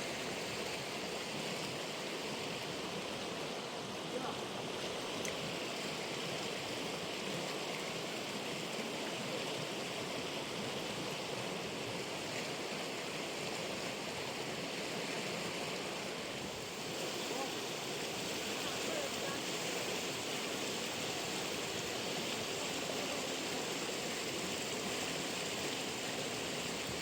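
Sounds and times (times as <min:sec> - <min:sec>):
fast-flowing river rushing: 0:00.0 - 0:27.0.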